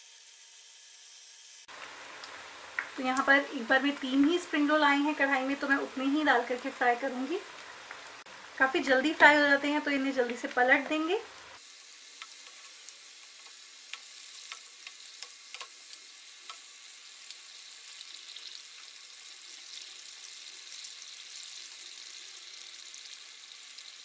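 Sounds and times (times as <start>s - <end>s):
food deep-frying in hot oil: 0.0s - 24.0s.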